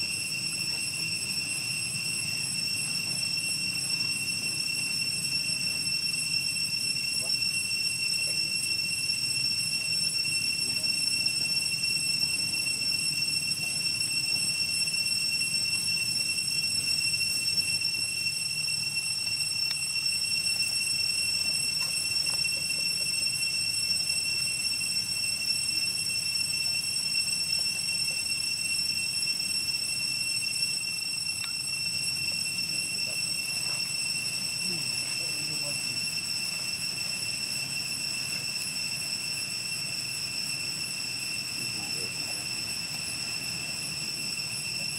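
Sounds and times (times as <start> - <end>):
high-pitched insect drone: 0.0 - 44.9.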